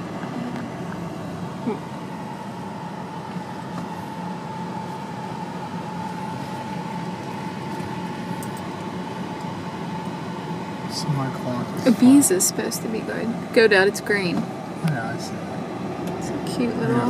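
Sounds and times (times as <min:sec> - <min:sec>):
constant whine: 0:00.0 - 0:17.0
road and engine noise in car: 0:00.0 - 0:17.0.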